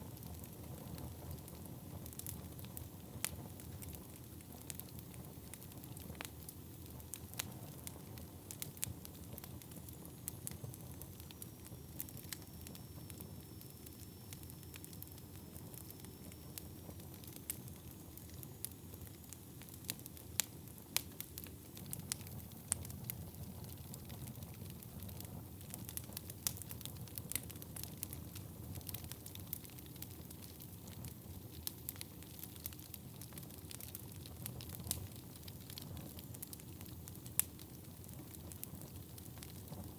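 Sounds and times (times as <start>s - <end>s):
burning wood crackling and popping: 0.0s - 39.9s.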